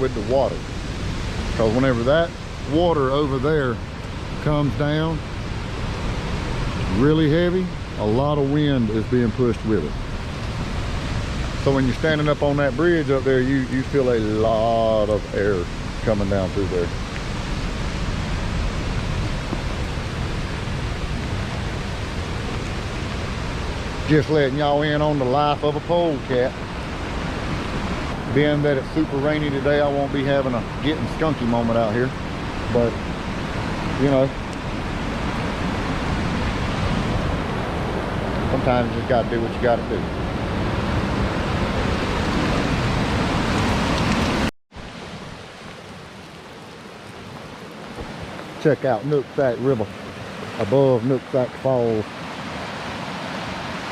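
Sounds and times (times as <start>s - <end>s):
river water rushing: 0.0s - 53.9s
waterfall rushing: 0.0s - 53.9s.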